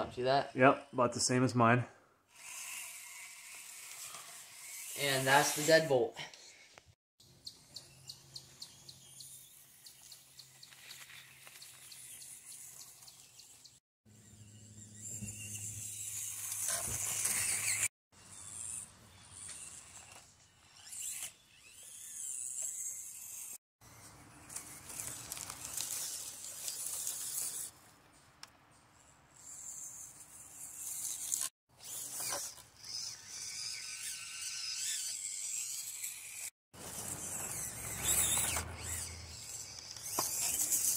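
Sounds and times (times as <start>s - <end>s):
small electric motor and gears whirring: 2.3s - 40.9s.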